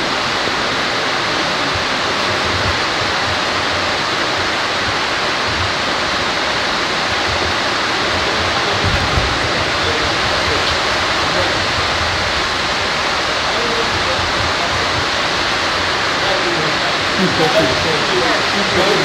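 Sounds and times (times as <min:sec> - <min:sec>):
heavy rain on a roof: 0:00.0 - 0:19.0.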